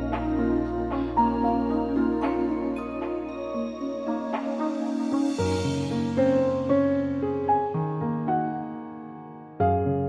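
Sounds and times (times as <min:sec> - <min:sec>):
soft new-age music: 0:00.0 - 0:10.0.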